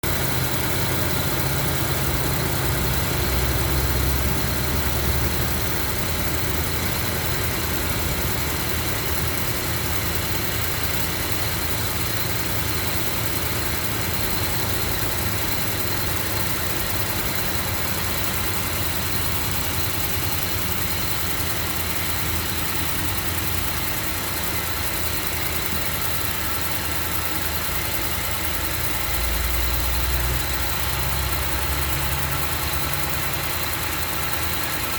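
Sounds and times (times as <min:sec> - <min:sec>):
car engine idling: 0:00.0 - 0:34.9
engine ticking: 0:00.0 - 0:34.9.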